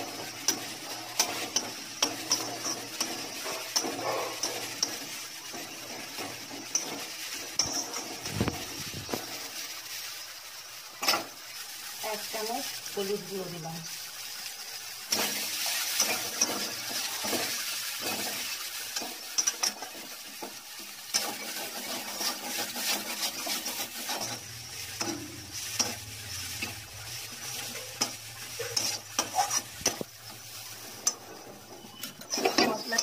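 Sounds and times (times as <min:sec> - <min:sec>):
metal spatula scraping a pan: 0:00.0 - 0:09.5, 0:14.7 - 0:33.0
paste sizzling in hot oil: 0:00.0 - 0:33.0.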